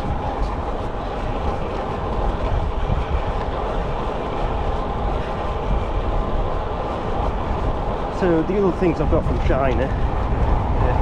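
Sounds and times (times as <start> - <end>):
bike tyres rumbling on road: 0.0 - 11.0
wind rushing on microphone: 0.0 - 11.0.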